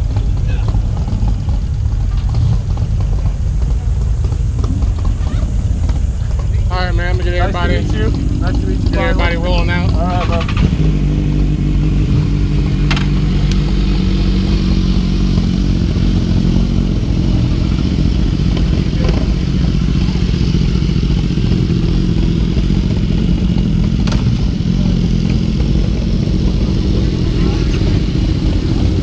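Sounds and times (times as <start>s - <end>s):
motorcycle engines idling: 0.0s - 29.0s.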